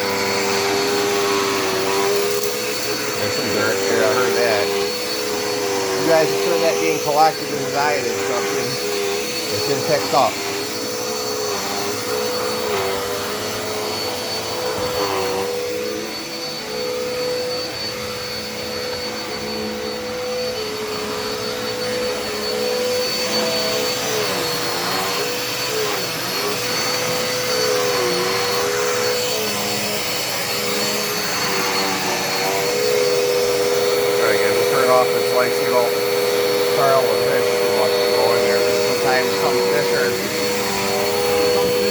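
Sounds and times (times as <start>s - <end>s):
vacuum cleaner whining: 0.0s - 41.9s.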